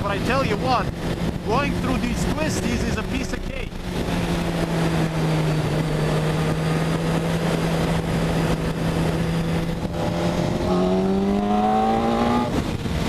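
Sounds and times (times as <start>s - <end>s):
motorcycle engine cruising: 0.0s - 13.0s
wind rush: 0.0s - 13.0s.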